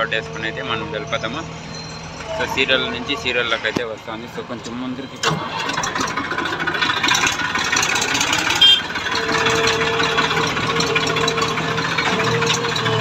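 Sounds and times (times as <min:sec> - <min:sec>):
tractor diesel engine rattling: 0:00.0 - 0:13.0.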